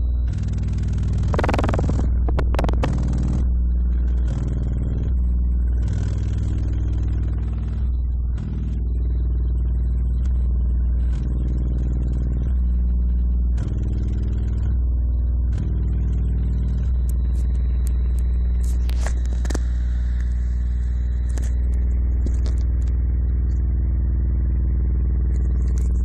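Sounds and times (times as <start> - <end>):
subwoofer deep bass drone: 0.0 - 26.0.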